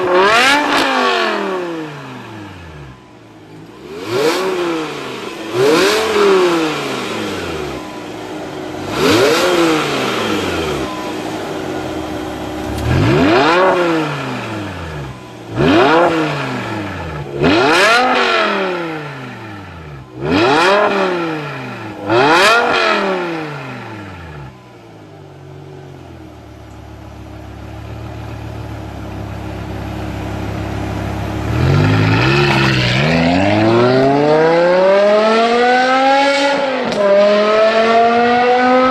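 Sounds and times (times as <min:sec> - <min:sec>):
car engine idling: 0:00.0 - 0:34.9
car engine revving: 0:00.0 - 0:38.9.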